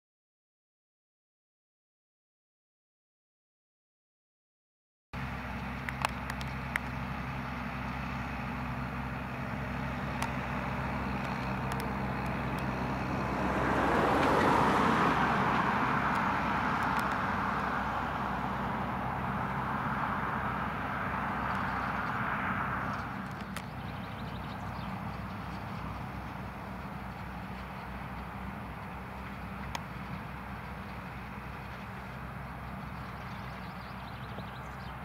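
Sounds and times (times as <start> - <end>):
tractor diesel engine passing: 5.2 - 35.0.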